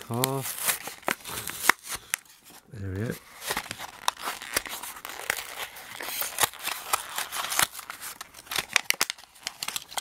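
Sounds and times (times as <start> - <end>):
plastic blister pack crackling: 0.0 - 10.0.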